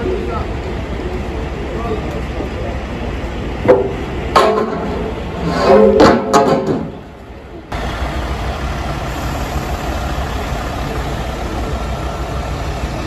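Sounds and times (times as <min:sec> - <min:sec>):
diesel truck engine running: 0:00.0 - 0:13.0
street noise: 0:00.0 - 0:13.0.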